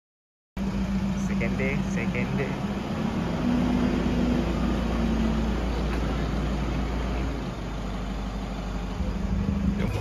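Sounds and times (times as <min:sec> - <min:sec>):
vehicle engine idling: 0:00.6 - 0:10.0.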